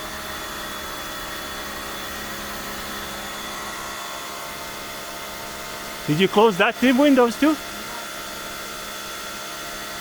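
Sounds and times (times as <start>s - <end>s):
pressure washer running: 0.0s - 10.0s.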